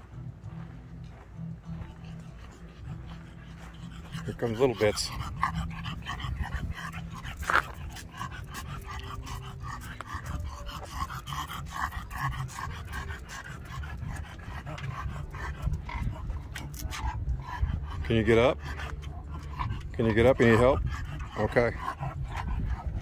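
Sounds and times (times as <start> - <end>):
dog panting: 0.6 - 23.0.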